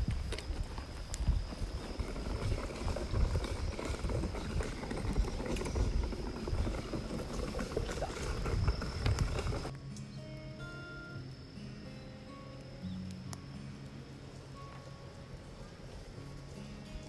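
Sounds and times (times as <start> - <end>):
low fire rumble: 0.0 - 9.9, 13.1 - 17.0
wood fire crackling: 0.0 - 10.6, 11.2 - 17.0.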